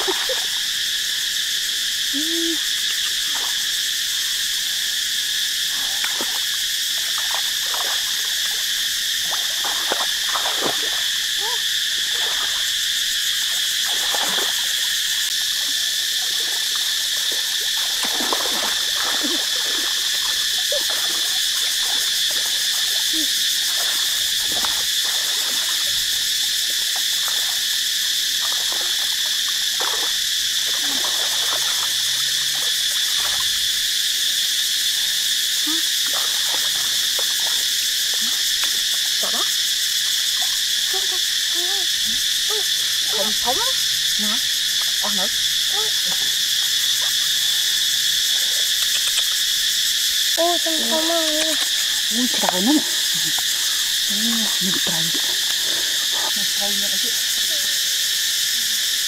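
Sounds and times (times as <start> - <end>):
frogs and insects calling: 0.0 - 59.0.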